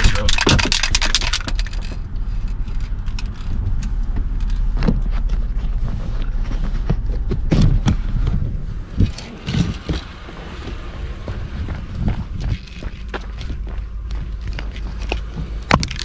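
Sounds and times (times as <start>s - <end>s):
engine idling rumble: 0.0s - 16.0s.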